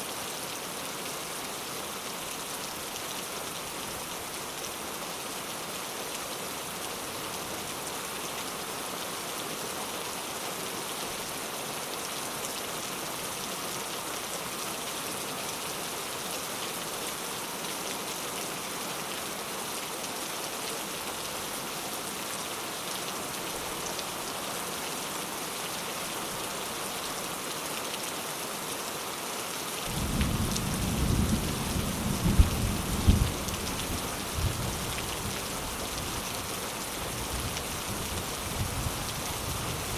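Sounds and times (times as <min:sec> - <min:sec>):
rain on a thatched roof: 0:00.0 - 0:39.9.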